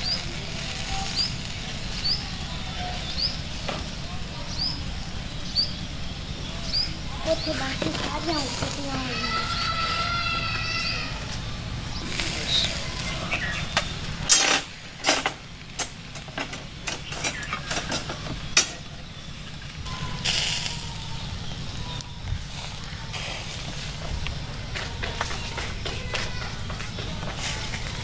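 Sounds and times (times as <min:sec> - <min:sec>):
charcoal fire crackling and popping: 0:00.0 - 0:28.0
low background rumble: 0:00.0 - 0:28.0
sizzling hiss: 0:00.0 - 0:28.0.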